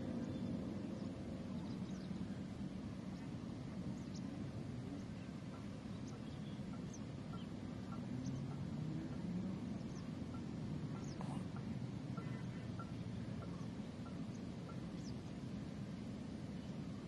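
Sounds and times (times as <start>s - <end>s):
faint bird chirps: 0.0s - 17.0s
steady low rumble: 0.0s - 17.0s.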